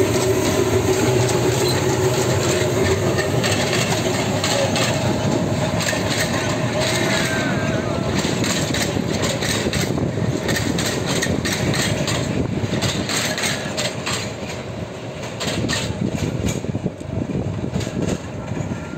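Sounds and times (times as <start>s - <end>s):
train carriages rumbling: 0.0s - 18.9s
wheels clanking and rattling: 0.0s - 18.9s.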